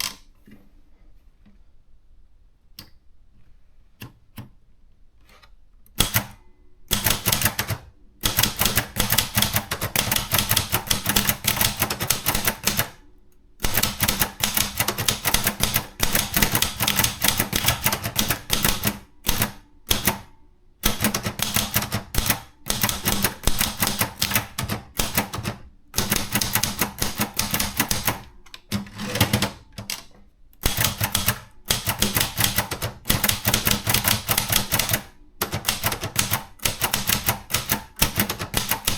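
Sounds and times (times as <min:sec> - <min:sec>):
typewriter keystrokes: 0:05.9 - 0:13.0, 0:13.6 - 0:38.9.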